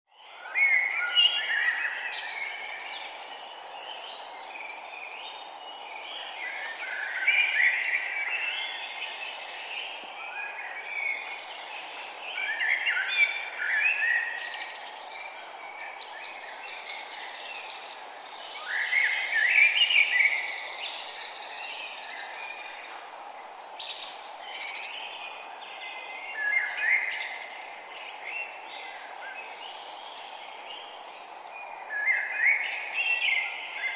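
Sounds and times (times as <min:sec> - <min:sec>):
birds chirping: 0:00.1 - 0:33.9
background hiss: 0:00.4 - 0:33.9.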